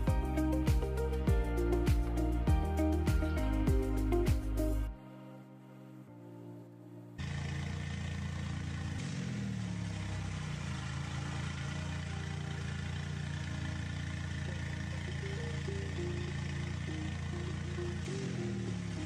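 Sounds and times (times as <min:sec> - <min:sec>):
vehicle engine idling: 0:00.0 - 0:04.9, 0:07.2 - 0:19.0.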